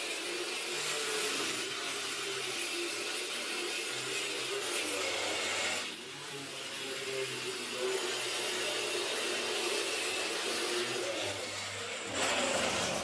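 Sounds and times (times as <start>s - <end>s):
vacuum cleaner running: 0.0s - 6.2s, 7.7s - 13.0s
angle grinder cutting wall: 0.0s - 13.0s.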